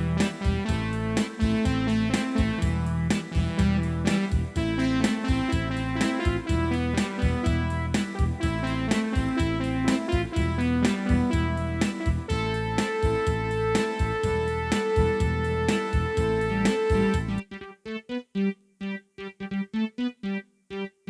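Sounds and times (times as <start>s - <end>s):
bass line: 0.0s - 17.4s
steady drum beat: 0.0s - 17.4s
keyboard chords and melody: 0.0s - 21.0s.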